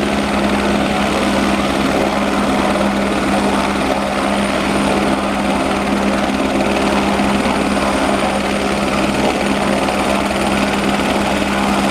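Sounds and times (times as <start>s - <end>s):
helicopter turbine and rotor drone: 0.0s - 11.9s.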